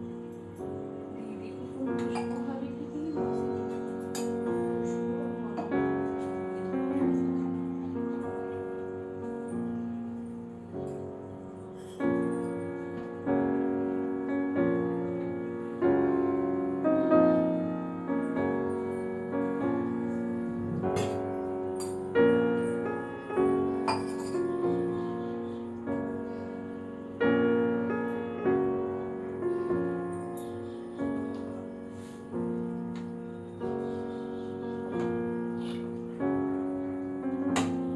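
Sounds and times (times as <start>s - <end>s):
piano chords: 0.0s - 37.9s.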